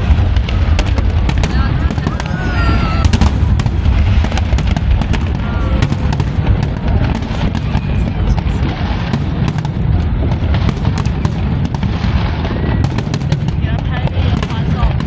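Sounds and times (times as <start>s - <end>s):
deep rumble of fireworks: 0.0s - 15.0s
fireworks bangs and crackles: 0.0s - 15.0s.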